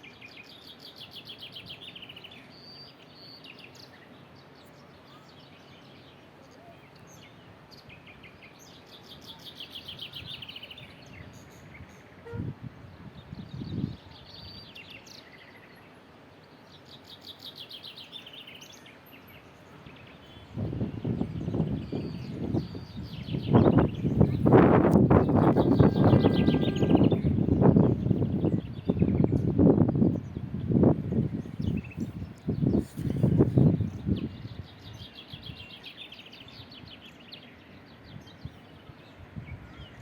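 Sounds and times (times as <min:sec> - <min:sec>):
songbird trill: 0:00.0 - 0:40.0.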